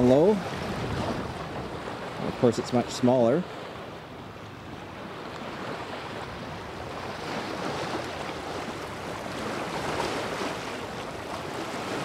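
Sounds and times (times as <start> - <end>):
water splashing along hull: 0.0 - 12.0.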